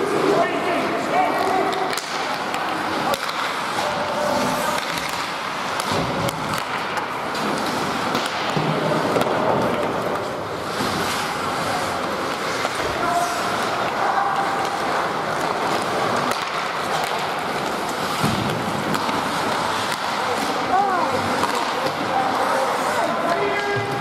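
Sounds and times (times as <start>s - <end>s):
skate blades scraping ice: 0.0s - 24.0s
hockey sticks clicking on puck: 0.1s - 24.0s.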